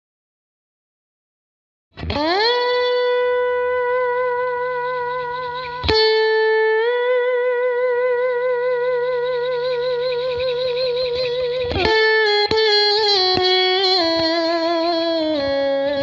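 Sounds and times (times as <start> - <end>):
electric slide guitar with vibrato: 2.0 - 16.0.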